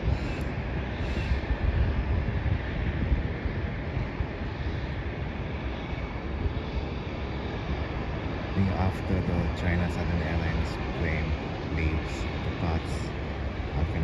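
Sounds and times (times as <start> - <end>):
distant airport rumble: 0.0 - 14.0
wind buffeting microphone: 0.0 - 14.0.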